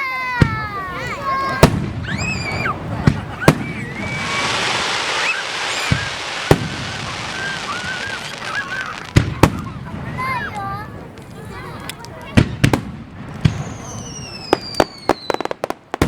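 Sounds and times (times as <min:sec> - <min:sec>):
crackling fizz of fireworks: 0:00.0 - 0:16.0
fireworks bangs: 0:00.0 - 0:16.0.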